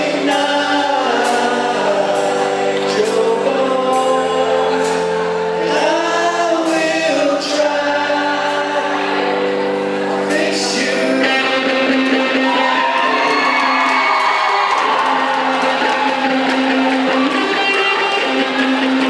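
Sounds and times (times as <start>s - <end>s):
group of voices singing: 0.0s - 19.0s
live band music: 0.0s - 19.0s.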